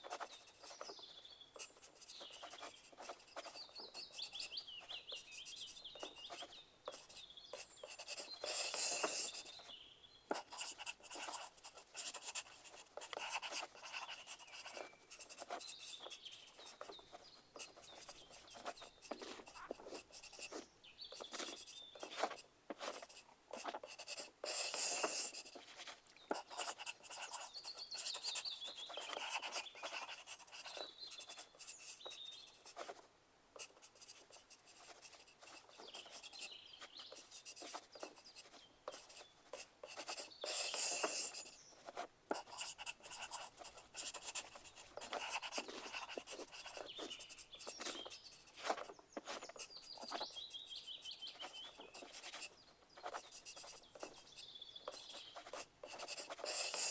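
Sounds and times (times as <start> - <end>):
faint bird chirps: 0.0 - 56.9
pencils scratching on paper: 0.0 - 56.9.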